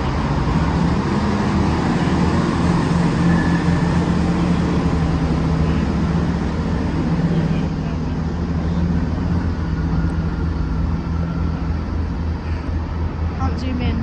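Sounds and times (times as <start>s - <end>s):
train diesel engines humming: 0.0s - 14.0s.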